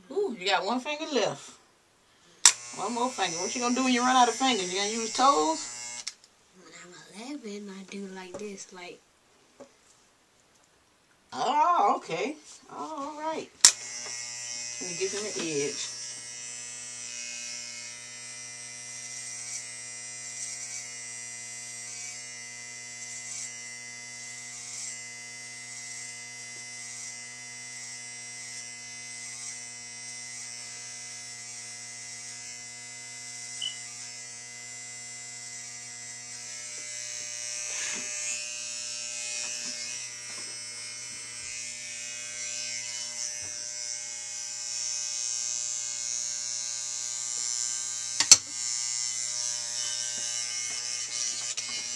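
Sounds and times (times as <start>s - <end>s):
electric hair trimmers buzzing: 2.4s - 6.2s, 12.8s - 51.9s
trimmer blade scratching: 2.4s - 6.2s, 12.8s - 51.9s.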